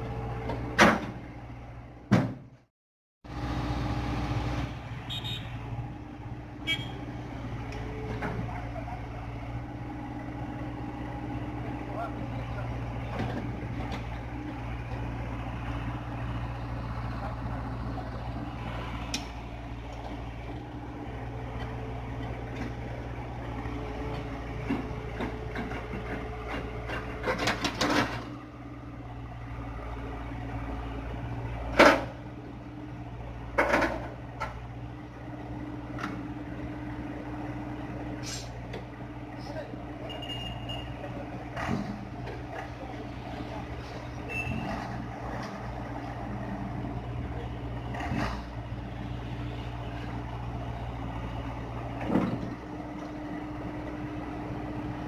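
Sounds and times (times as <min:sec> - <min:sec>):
excavator diesel engine running: 0:03.3 - 0:55.0.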